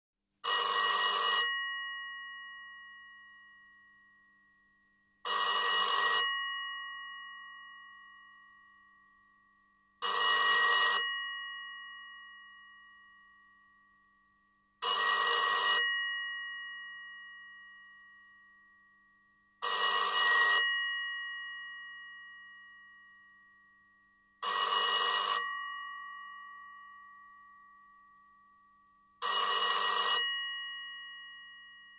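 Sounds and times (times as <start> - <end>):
telephone bell ringing: 0.4 - 4.4, 5.2 - 9.4, 10.0 - 13.8, 14.8 - 19.0, 19.6 - 23.8, 24.4 - 28.6, 29.2 - 31.9.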